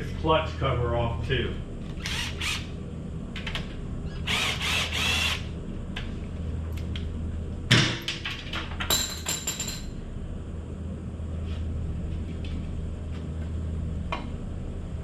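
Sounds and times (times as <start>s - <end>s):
low hum: 0.0s - 7.7s, 8.8s - 15.0s.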